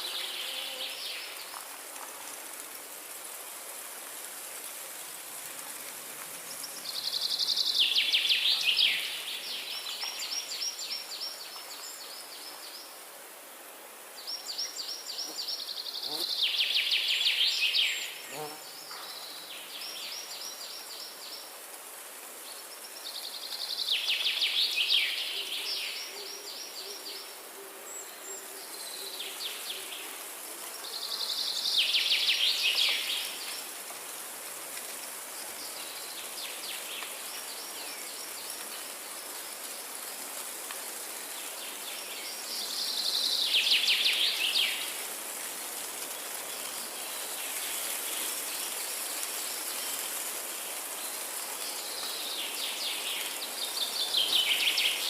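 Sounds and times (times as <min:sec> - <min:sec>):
steady high hiss: 0:00.0 - 0:55.0.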